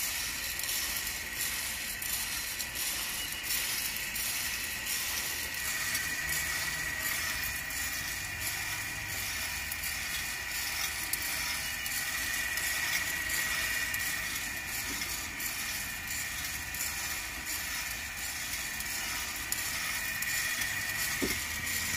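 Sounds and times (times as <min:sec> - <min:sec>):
coffee beans rattling in drum: 0:00.0 - 0:21.9
steady high whine: 0:00.0 - 0:21.9
steady hiss: 0:00.0 - 0:21.9.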